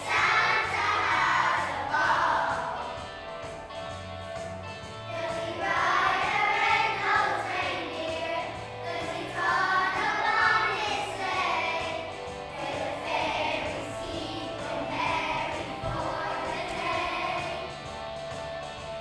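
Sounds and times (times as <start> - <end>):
children singing together: 0.0 - 3.0, 5.1 - 18.0
backing music: 0.0 - 19.0.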